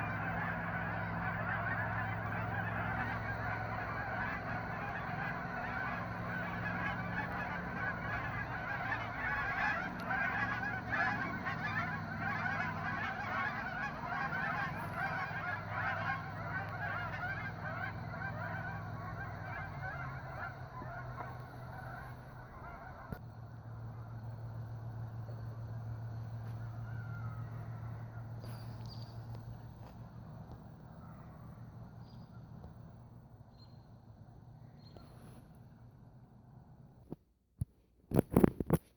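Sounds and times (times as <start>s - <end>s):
geese honking: 0.0s - 32.9s.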